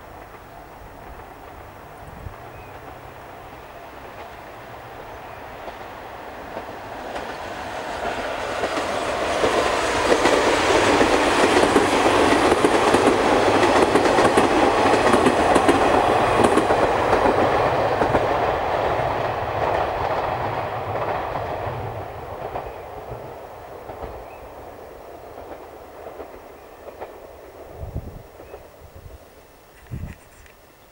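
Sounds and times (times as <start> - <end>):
diesel train passing: 0.0 - 29.8.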